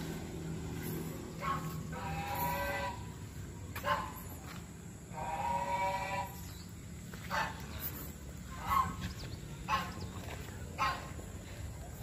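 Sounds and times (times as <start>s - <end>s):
domestic waterfowl calling: 1.3s - 4.4s, 5.1s - 11.6s.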